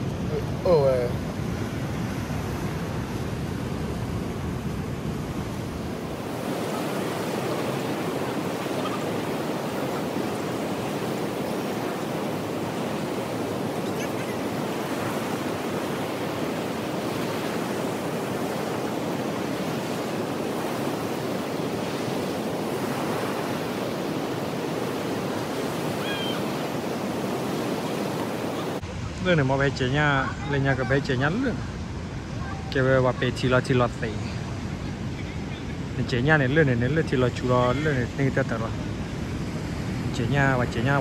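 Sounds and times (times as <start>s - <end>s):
waves washing onto shore: 0.0s - 41.0s.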